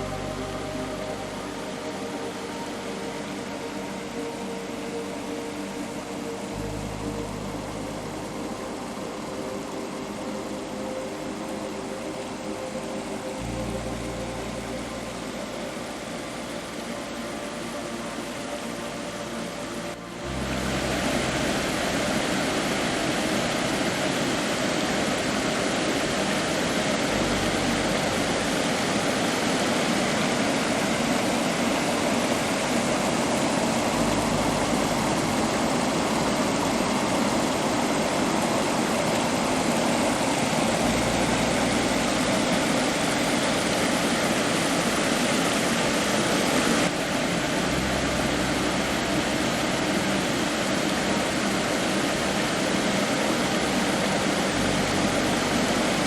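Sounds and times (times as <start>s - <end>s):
waterfall and river rushing: 0.0s - 56.0s.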